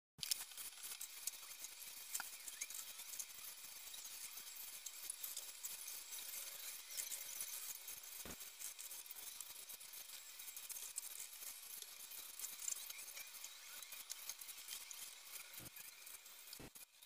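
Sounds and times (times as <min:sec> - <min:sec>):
dense crackle of tiny clicks: 0:00.2 - 0:17.0.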